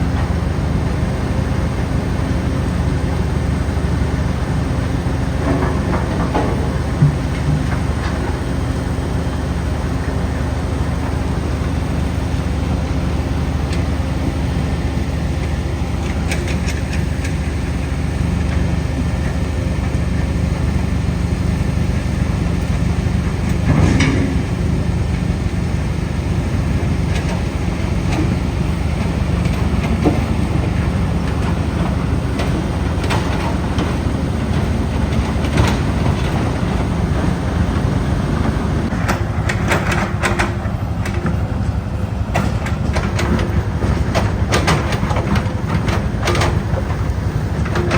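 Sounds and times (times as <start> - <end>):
asphalt crusher grinding: 0.0 - 47.9
diesel engine droning: 0.0 - 47.9.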